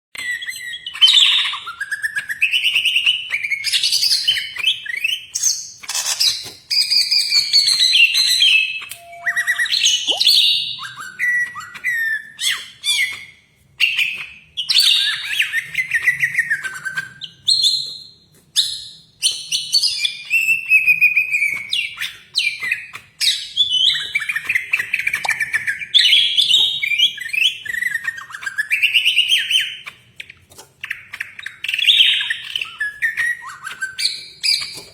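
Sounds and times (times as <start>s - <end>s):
bird singing whistled song: 0.2s - 30.0s, 30.8s - 34.9s.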